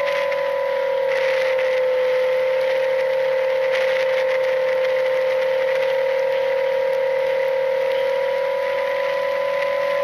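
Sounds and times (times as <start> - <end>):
electric motor and propeller whine: 0.0 - 10.0.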